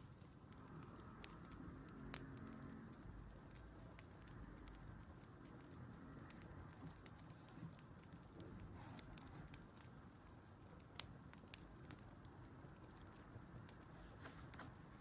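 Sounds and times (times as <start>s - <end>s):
wood fire pops and snaps: 0.0s - 15.0s.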